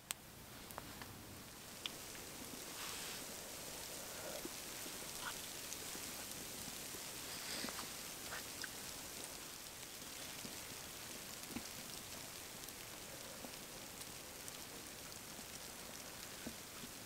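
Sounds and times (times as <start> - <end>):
soft steady hiss: 0.0 - 17.0
wood fire crackling: 0.0 - 17.0.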